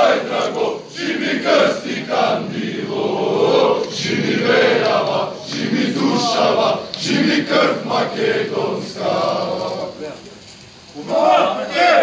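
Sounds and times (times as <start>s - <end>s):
crowd of men chanting: 0.0s - 10.0s, 11.0s - 12.0s.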